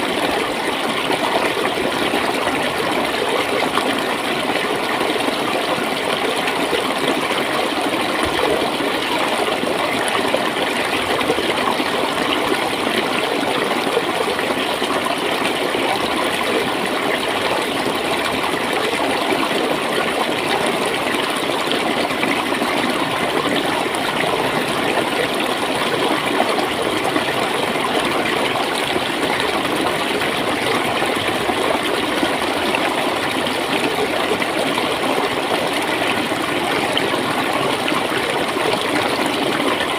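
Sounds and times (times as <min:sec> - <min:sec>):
water gurgling: 0:00.0 - 0:39.9.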